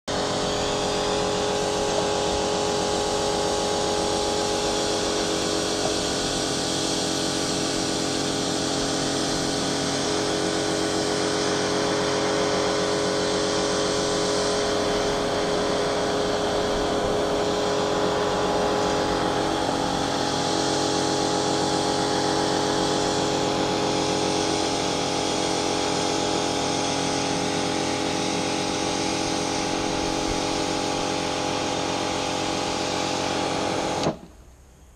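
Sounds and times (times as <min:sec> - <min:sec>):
pressure washer motor hum: 0:00.0 - 0:34.4
high-pressure water jet hiss: 0:00.1 - 0:34.2.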